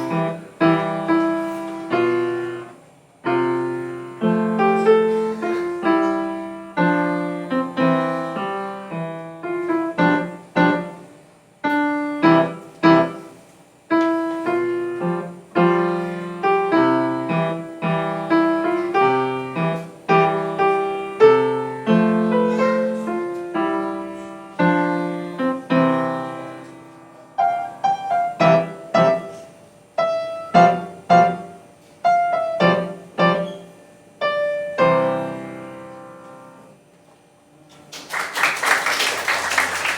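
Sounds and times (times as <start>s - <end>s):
solo piano piece: 0.0s - 36.9s.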